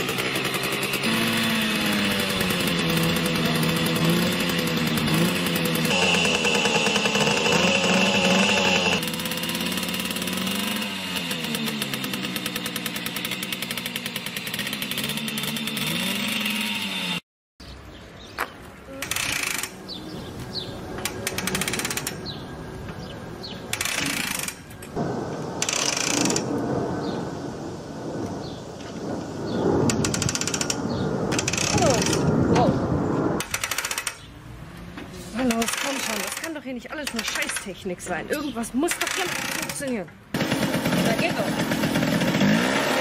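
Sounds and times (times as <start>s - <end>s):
moped being pedal-started: 0.0s - 17.2s, 18.9s - 25.0s, 25.6s - 26.5s, 29.9s - 32.3s, 33.4s - 34.3s, 35.3s - 43.0s
moped engine revving: 0.0s - 17.2s, 19.0s - 27.4s, 29.4s - 34.3s, 35.3s - 43.0s.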